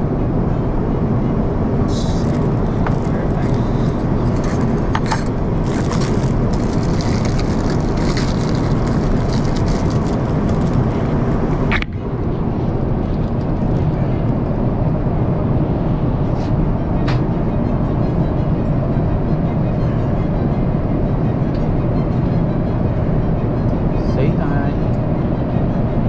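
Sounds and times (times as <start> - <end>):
airliner cabin roar: 0.0 - 26.0.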